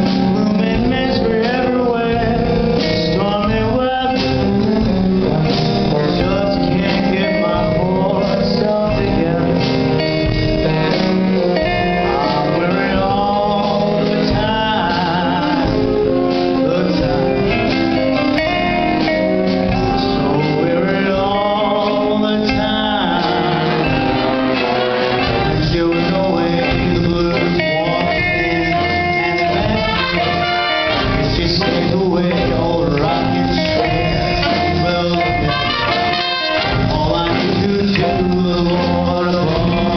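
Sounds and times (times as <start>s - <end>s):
brass instruments: 0.0s - 39.9s
jazz band playing: 0.0s - 39.9s
person singing: 0.0s - 39.9s.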